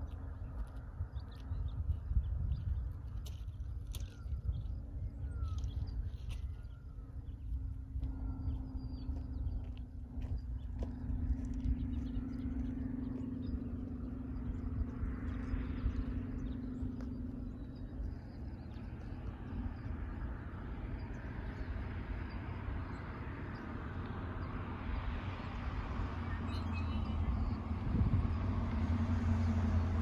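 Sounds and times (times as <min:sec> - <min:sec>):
low traffic rumble: 0:00.0 - 0:30.0.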